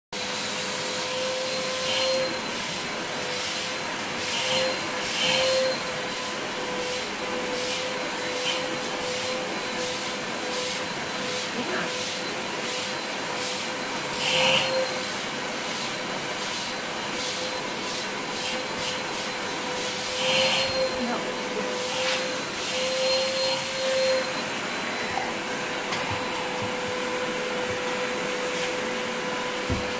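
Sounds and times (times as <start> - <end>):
vacuum cleaner whining: 0.2 - 29.9.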